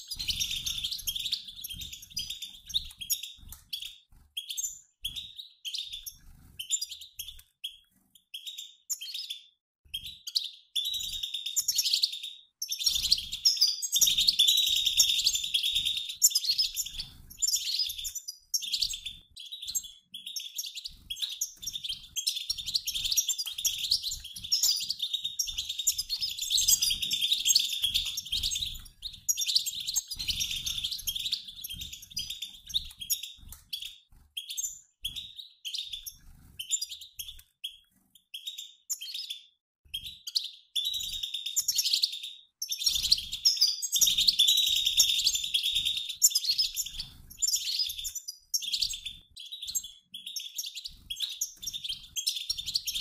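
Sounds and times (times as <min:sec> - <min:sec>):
goldfinches twittering: 0:00.0 - 0:07.4, 0:10.3 - 0:37.4, 0:40.3 - 0:53.0.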